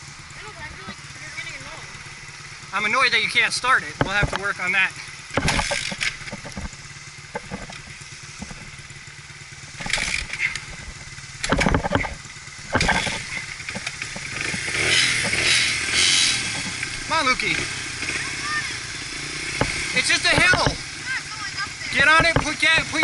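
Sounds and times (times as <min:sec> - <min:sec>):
dirt bike engine idling: 0:00.0 - 0:23.0.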